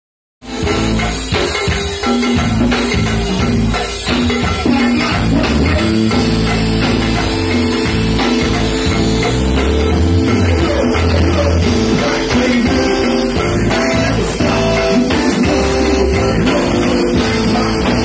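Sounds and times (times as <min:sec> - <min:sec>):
congas: 0:00.4 - 0:18.0
drum kit: 0:00.4 - 0:18.0
live band playing: 0:00.4 - 0:18.0.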